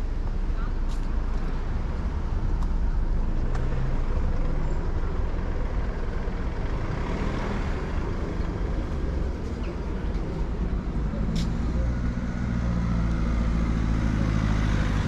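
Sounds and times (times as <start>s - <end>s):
large vehicle engine running: 0.0s - 15.0s
road noise: 0.0s - 15.0s.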